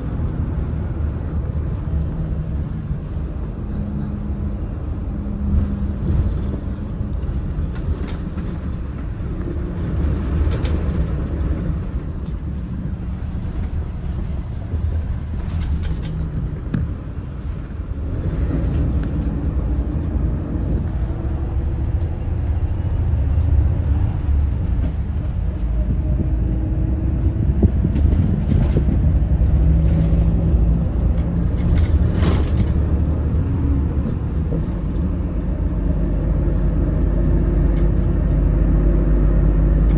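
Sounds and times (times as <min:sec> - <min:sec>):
bus diesel engine rumbling: 0:00.0 - 0:39.9.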